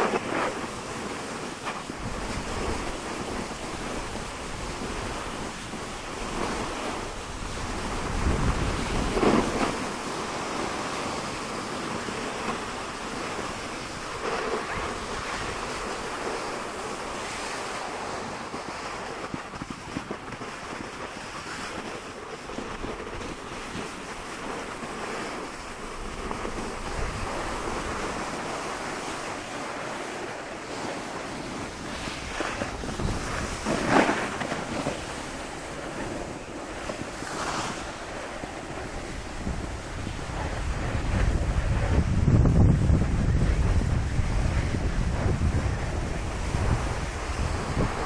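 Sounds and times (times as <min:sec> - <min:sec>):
skis scraping snow: 0:00.0 - 0:48.0
wind on microphone: 0:00.0 - 0:48.0.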